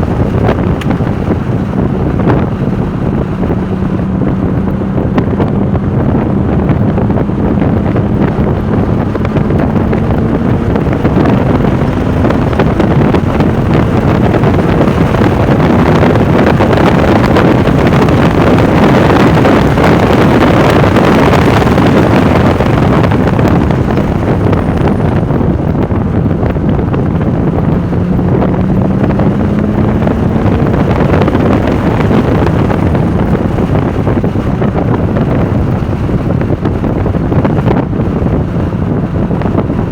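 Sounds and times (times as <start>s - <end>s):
car engine at speed: 0.0s - 39.9s
wind noise on microphone: 0.0s - 39.9s.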